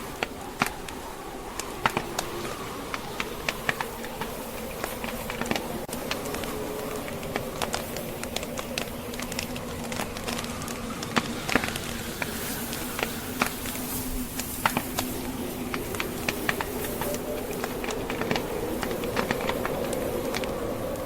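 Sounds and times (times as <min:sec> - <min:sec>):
howling blizzard wind: 0:00.0 - 0:21.0
log fire crackling and popping: 0:00.0 - 0:21.0.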